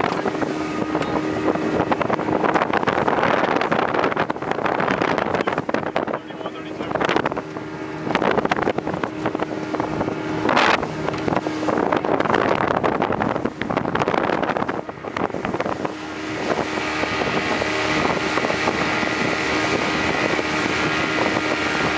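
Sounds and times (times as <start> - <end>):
motorboat engine whine: 0.0 - 21.9
wind on microphone: 0.0 - 21.9.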